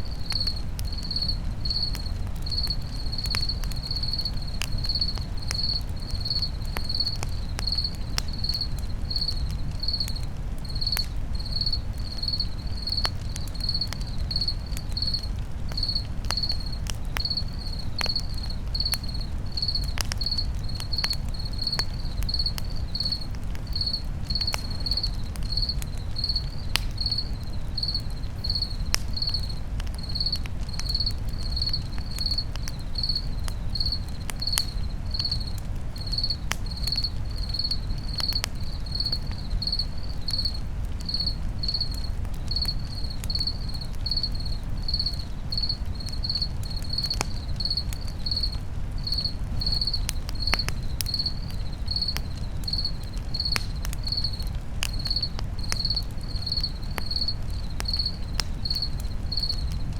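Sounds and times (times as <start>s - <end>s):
campfire crackling and popping: 0.0s - 59.9s
cricket chirping: 0.0s - 59.9s.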